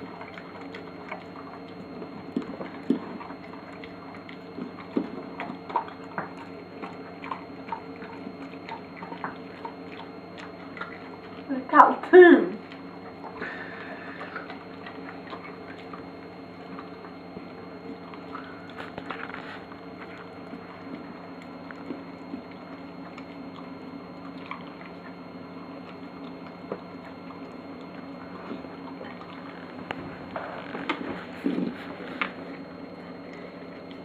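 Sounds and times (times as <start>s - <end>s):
dog licking and chewing: 0.0s - 34.0s.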